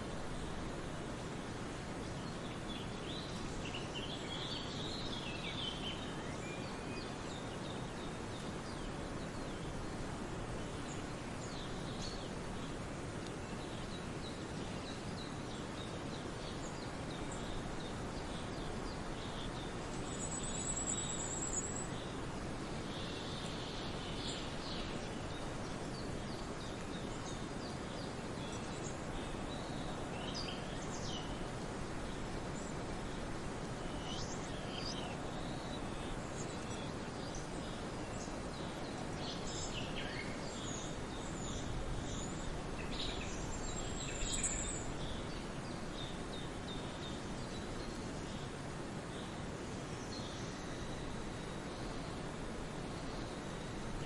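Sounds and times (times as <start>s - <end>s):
forest birds chirping: 0.0s - 54.0s
steady background hiss: 0.0s - 54.0s.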